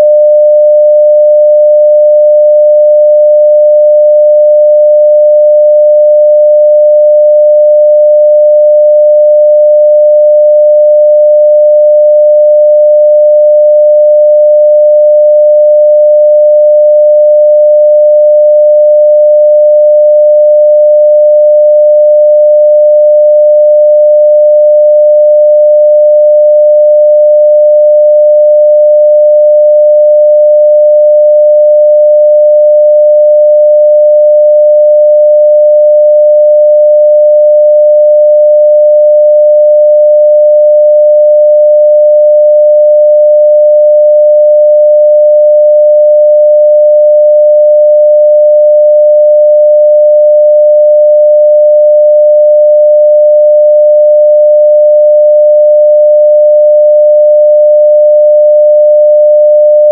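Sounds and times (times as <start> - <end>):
sine-wave test tone: 0.0 - 59.9.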